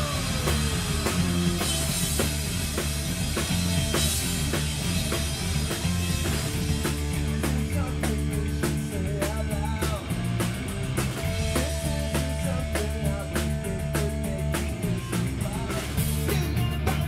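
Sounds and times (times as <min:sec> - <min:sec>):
drum kit beat: 0:00.0 - 0:17.0
electric bass guitar: 0:00.0 - 0:17.0
electric guitars: 0:00.0 - 0:17.0.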